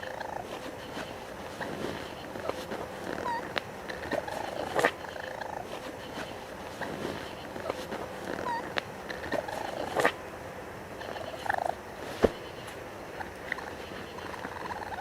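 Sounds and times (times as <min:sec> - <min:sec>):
raccoon chirping and trilling: 0:00.0 - 0:10.2, 0:11.0 - 0:15.0.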